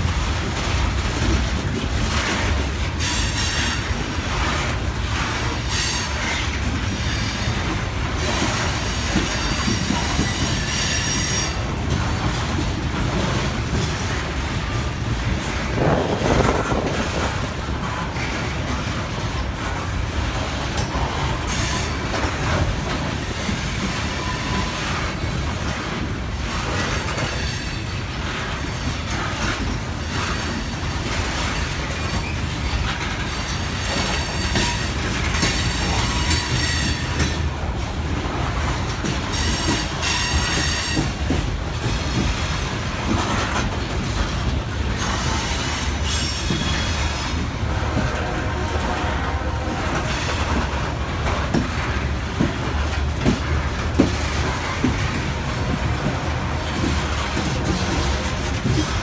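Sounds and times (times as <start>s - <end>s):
heavy train rumble: 0.0s - 59.0s
steel wheels squealing on rail: 2.2s - 14.8s, 20.4s - 37.6s, 38.2s - 59.0s.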